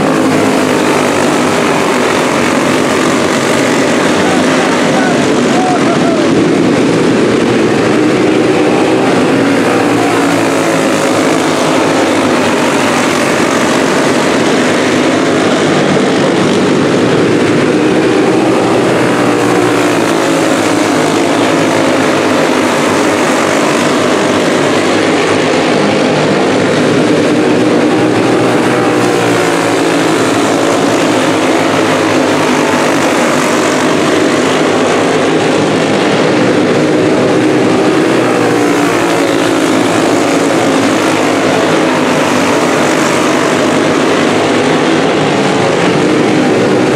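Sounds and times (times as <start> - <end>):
go-kart engines buzzing: 0.0 - 46.9.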